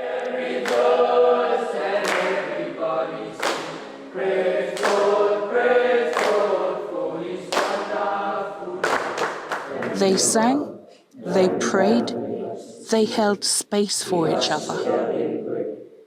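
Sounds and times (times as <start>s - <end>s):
boys singing in chorus: 0.0s - 13.3s, 14.0s - 16.0s.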